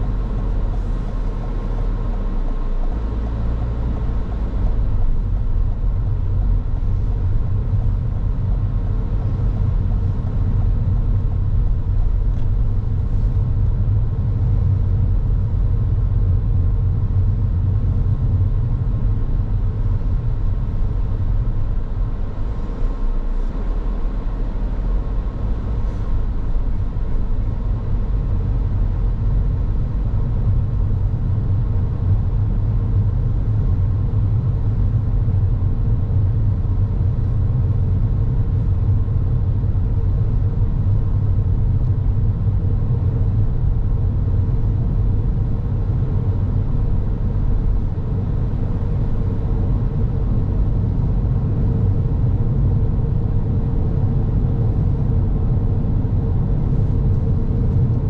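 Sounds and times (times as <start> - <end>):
car engine and tyre rumble: 0.0 - 58.0
faint steady hum: 0.0 - 58.0.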